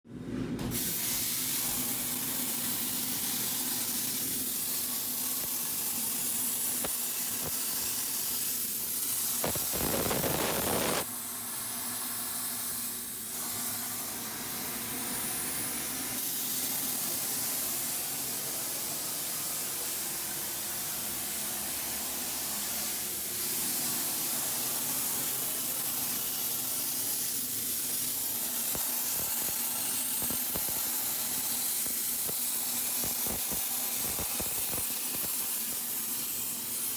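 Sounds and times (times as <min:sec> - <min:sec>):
plasma torch cutting steel: 0:00.7 - 0:36.9.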